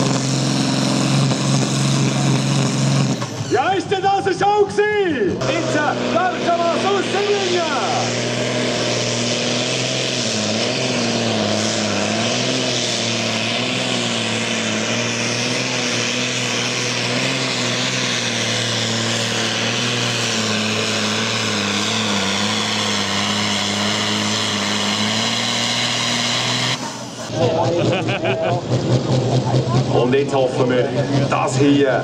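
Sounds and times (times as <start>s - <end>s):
tractor diesel engine at high revs: 0.0s - 32.0s.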